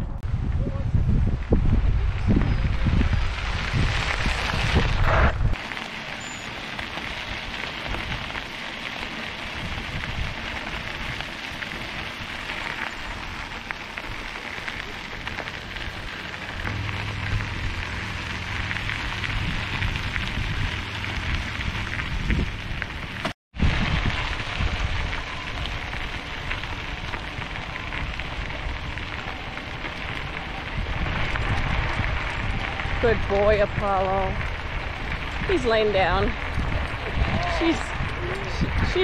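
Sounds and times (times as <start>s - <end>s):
wind rumbling on microphone: 0.0s - 39.0s
tyres crunching on gravel: 1.6s - 39.0s.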